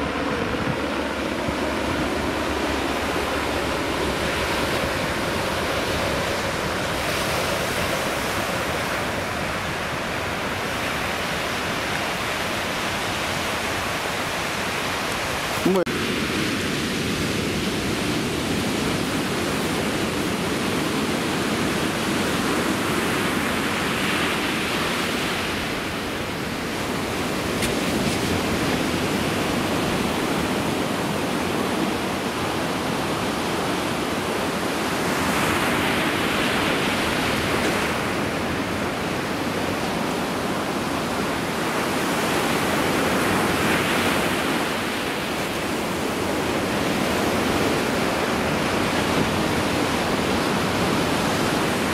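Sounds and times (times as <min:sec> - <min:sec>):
ocean surf breaking: 0:00.0 - 0:51.9.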